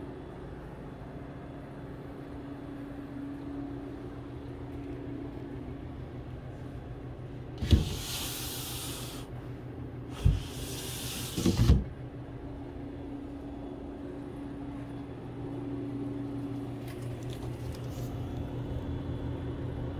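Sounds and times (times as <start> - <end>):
compressor humming: 3.8 - 19.9.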